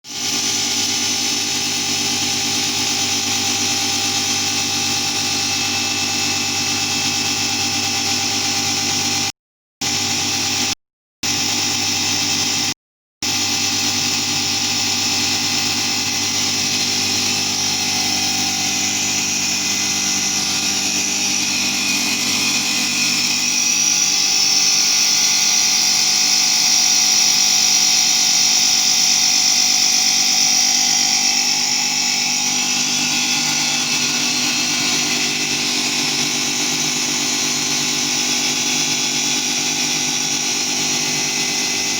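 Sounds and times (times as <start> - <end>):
router spindle whining: 0.1 - 9.2, 13.2 - 41.9.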